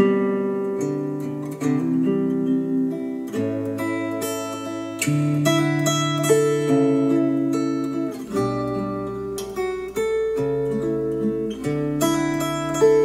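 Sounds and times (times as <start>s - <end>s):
acoustic guitar music through speakers: 0.0s - 13.0s.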